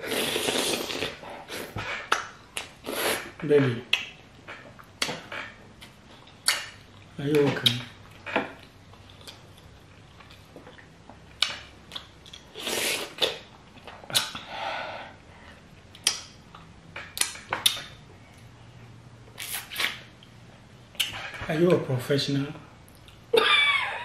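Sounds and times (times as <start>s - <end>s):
open-mouthed smacking and chewing: 0.1s - 14.5s, 15.5s - 18.5s, 19.3s - 21.4s, 22.8s - 23.3s.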